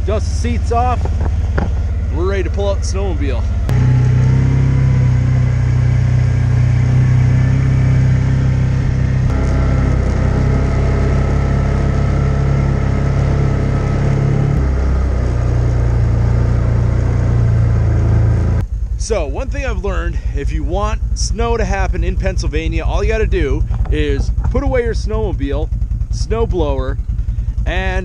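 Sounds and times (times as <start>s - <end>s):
vehicle engine running under load: 0.0s - 28.0s.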